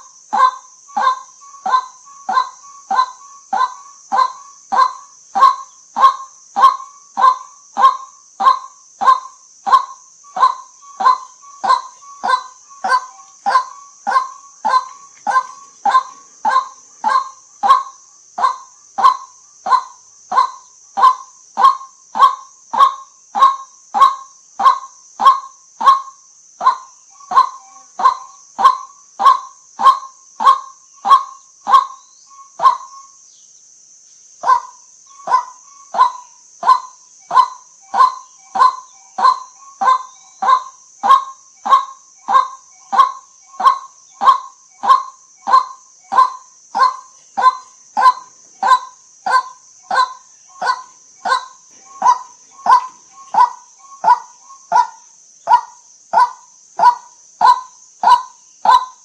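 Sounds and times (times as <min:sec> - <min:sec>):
waterhen honking calls: 0:00.4 - 0:26.0, 0:26.6 - 0:32.0, 0:34.4 - 0:58.9.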